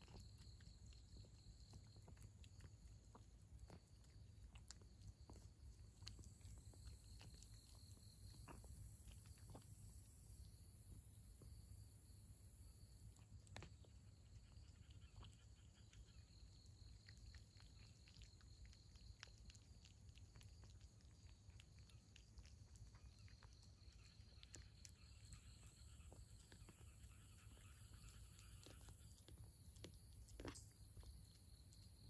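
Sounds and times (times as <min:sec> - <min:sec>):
cat chewing food: 0:00.0 - 0:32.0.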